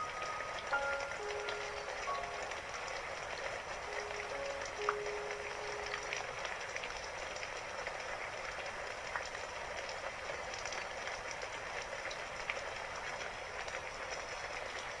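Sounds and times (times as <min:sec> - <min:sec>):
raindrops ticking: 0:00.0 - 0:15.0
steady rainfall: 0:00.0 - 0:15.0.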